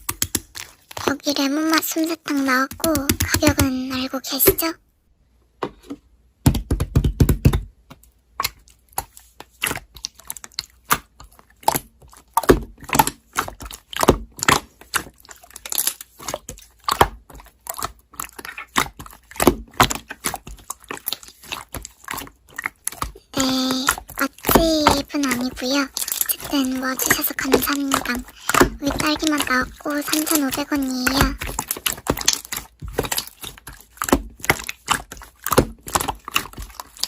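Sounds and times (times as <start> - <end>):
slime crackling and squishing: 0.0 - 4.8, 7.8 - 37.0.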